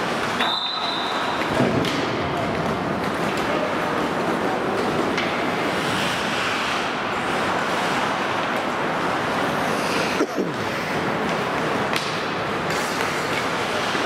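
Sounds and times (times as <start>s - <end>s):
skates on ice: 0.0s - 14.0s
ice rink rushing hiss: 2.7s - 14.0s.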